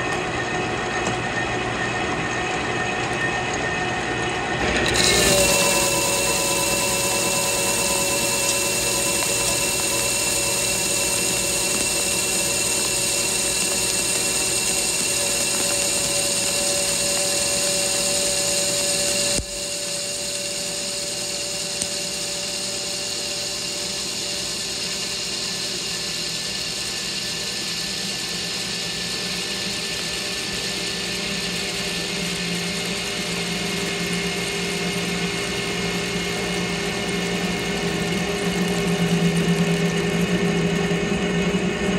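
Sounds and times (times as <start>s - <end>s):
metal lathe cutting with whine: 0.0s - 41.9s.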